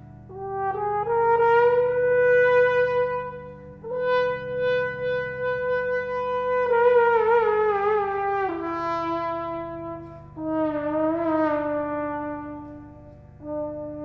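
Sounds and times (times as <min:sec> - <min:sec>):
trombone playing slow melody: 0:00.0 - 0:14.0.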